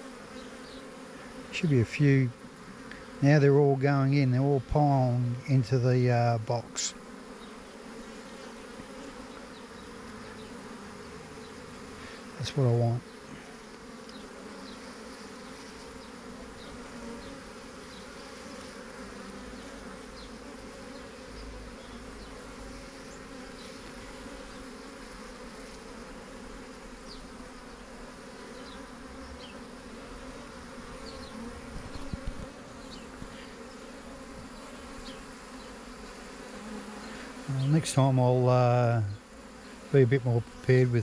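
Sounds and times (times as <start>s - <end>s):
bee swarm buzzing: 0.0s - 41.0s.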